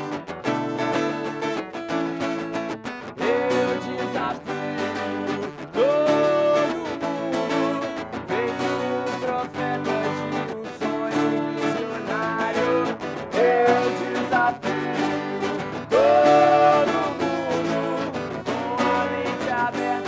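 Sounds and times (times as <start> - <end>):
band playing with guitars: 0.0 - 20.0
bending held guitar notes: 0.0 - 20.0.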